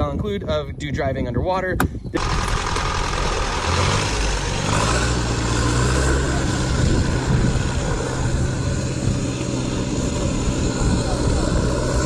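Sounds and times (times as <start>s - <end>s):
diesel engine running: 2.2s - 12.0s.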